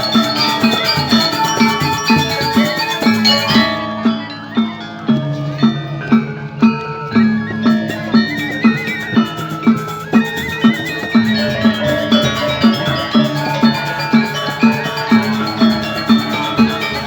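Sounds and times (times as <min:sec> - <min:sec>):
metallophones ringing: 0:00.0 - 0:17.0.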